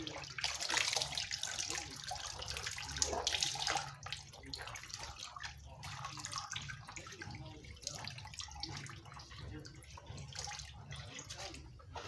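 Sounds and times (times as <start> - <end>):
small water splashes: 0.0 - 12.0
water streaming into a basin: 0.0 - 12.0.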